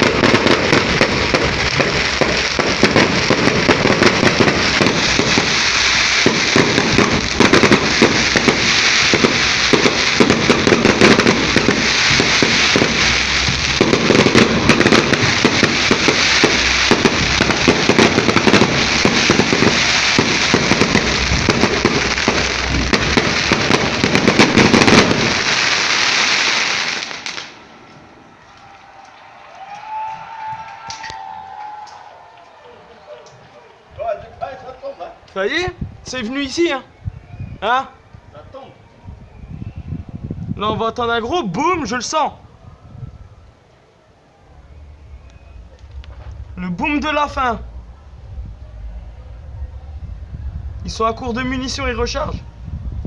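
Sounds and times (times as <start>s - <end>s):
fireworks and firecrackers crackling: 0.0s - 37.6s, 44.3s - 53.0s.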